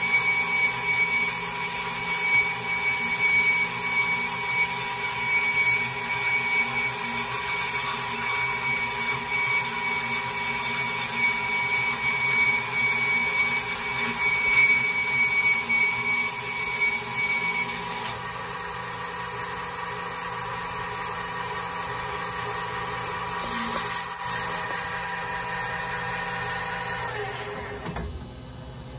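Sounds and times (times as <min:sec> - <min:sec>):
bandsaw running: 0:00.0 - 0:27.9.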